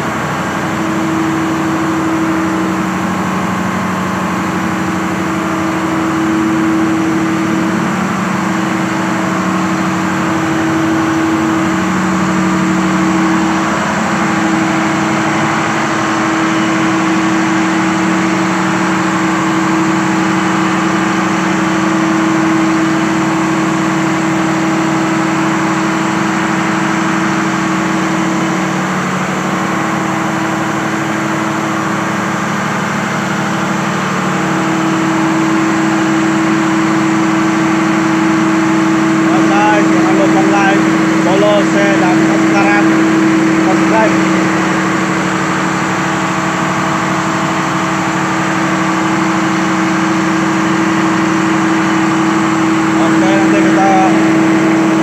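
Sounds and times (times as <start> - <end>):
diesel generator engine droning: 0.0 - 55.0.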